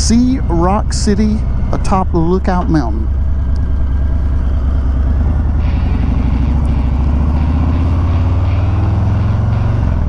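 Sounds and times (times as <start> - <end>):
motorcycle engine pulsing exhaust: 0.0 - 10.0.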